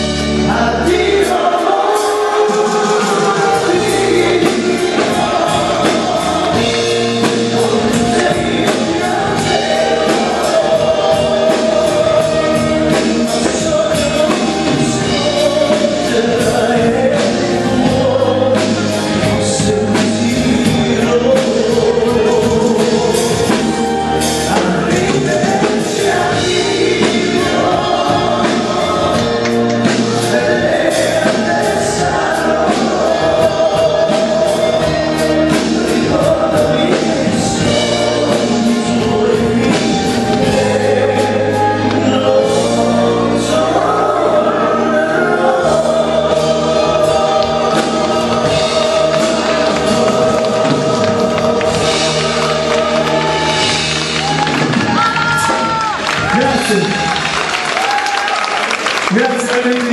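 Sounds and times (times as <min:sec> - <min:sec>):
live pop band playing: 0:00.0 - 0:59.9
man singing into a microphone: 0:00.4 - 0:53.6.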